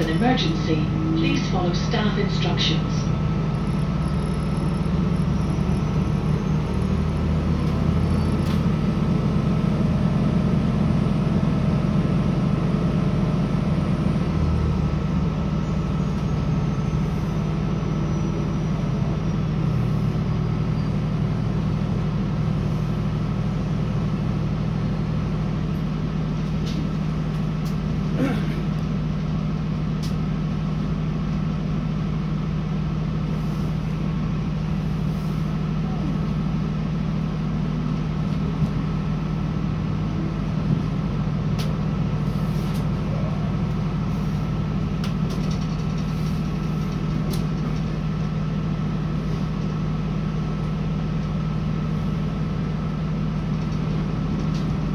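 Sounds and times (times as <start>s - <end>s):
train diesel engine drone: 0.0s - 54.9s.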